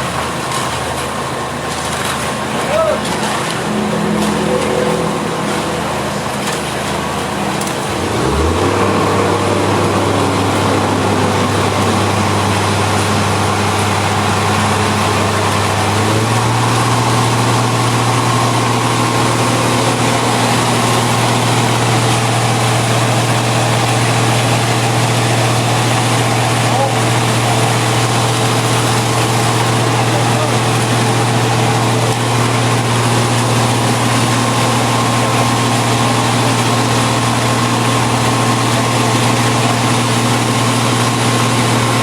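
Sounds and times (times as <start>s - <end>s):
heavy machine engine running: 0.0s - 42.0s.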